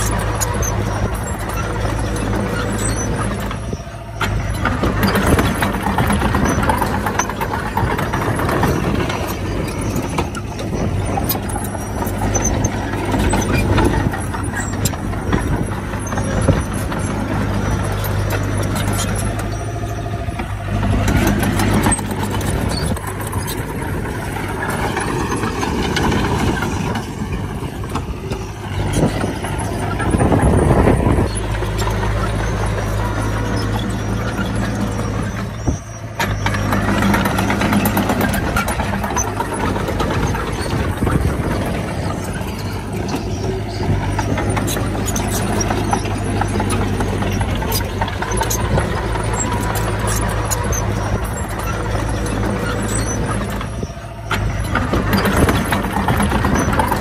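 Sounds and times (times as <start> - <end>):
heavy diesel machinery drone: 0.0 - 57.0.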